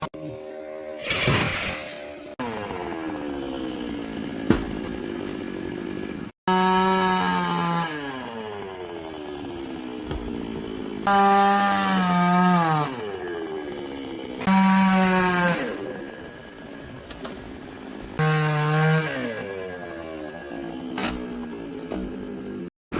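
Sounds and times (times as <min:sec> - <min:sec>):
chainsaw engine revving: 0:00.2 - 0:22.7.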